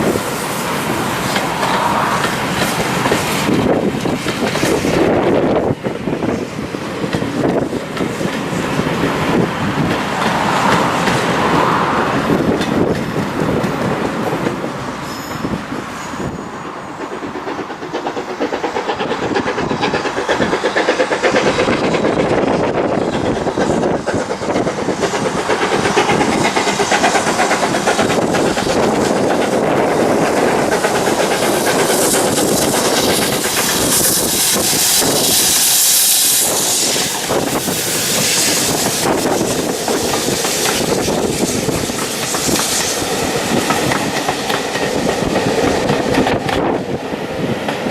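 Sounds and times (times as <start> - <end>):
train wheels clattering on rails: 0.0 - 47.9.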